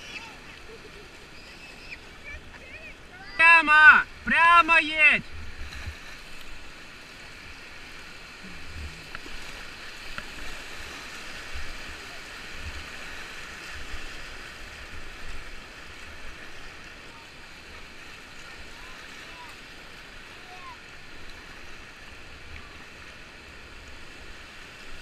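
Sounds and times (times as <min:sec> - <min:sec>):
whitewater rushing: 0:00.0 - 0:25.0.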